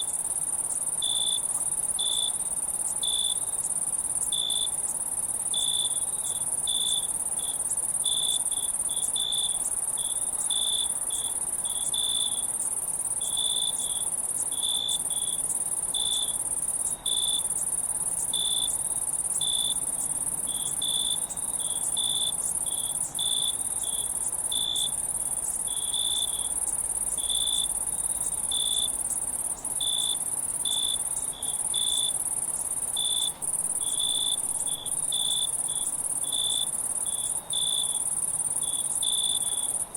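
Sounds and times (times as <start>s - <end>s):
cricket chirps: 0.0s - 39.9s
insects trilling: 0.0s - 39.9s.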